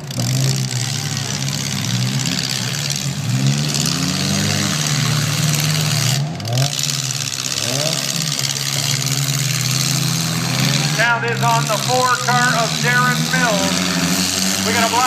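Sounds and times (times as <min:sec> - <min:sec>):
car engines revving and idling: 0:00.0 - 0:15.0.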